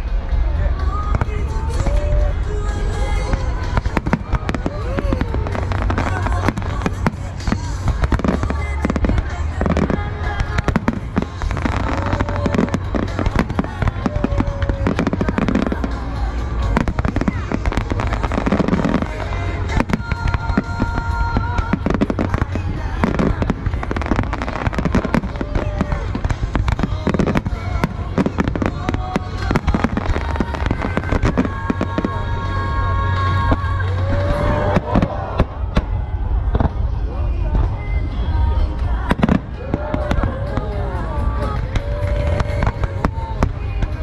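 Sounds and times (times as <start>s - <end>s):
deep rumble: 0.0s - 44.0s
fireworks bangs and crackles: 0.0s - 44.0s.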